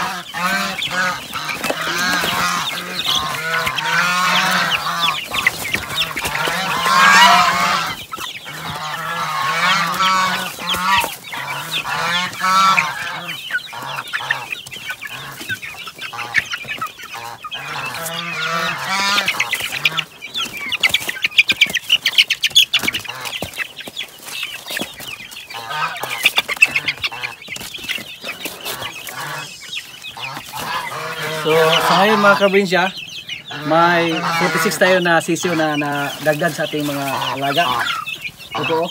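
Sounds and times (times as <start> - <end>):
chicks calling: 0.0 - 38.9.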